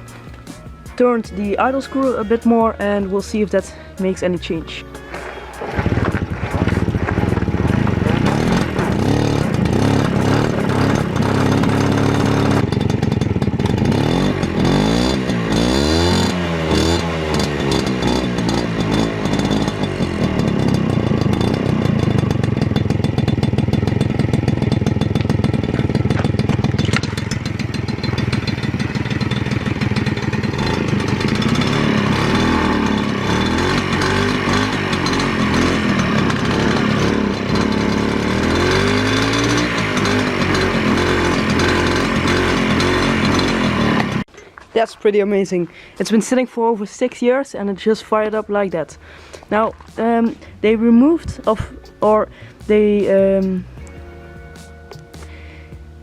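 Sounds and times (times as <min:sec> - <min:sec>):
moped engine revving: 0:00.0 - 0:44.4, 0:45.1 - 0:56.0.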